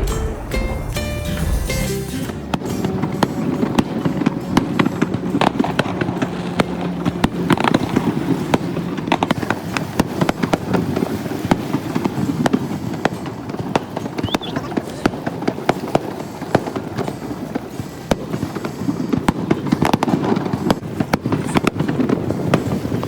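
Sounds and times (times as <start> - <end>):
fireworks bangs and cracks: 0.0 - 23.0.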